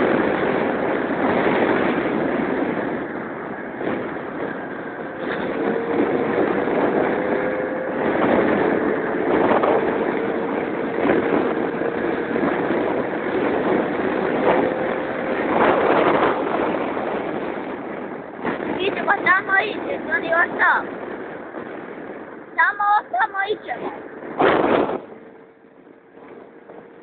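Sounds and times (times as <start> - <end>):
constant rushing noise: 0.0 - 27.0.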